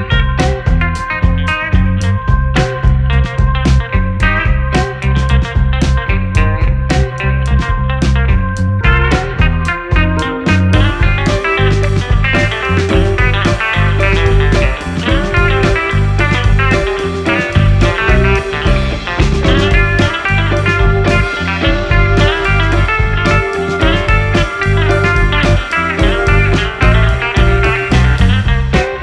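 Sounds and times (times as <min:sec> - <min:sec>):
guitar-led music with steady beat: 0:00.0 - 0:29.0.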